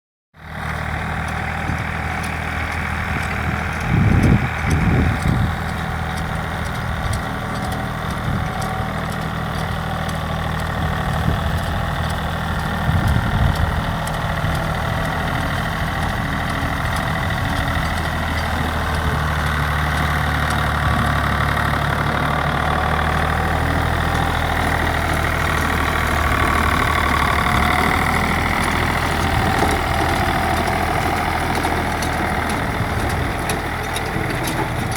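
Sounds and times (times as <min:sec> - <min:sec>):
tractor engine idling: 0:00.4 - 0:34.9.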